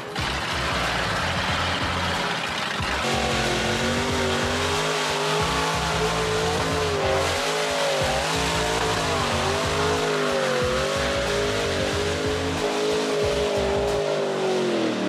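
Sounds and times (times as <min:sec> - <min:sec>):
dense steady noise: 0:00.0 - 0:14.1
vehicle engine revving: 0:00.0 - 0:15.0.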